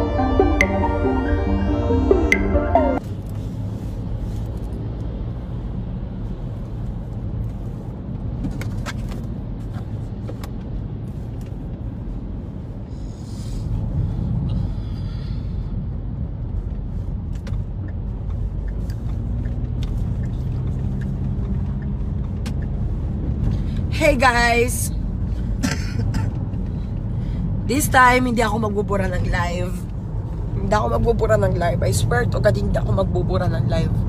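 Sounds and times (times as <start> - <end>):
car interior rumble: 0.0 - 34.0.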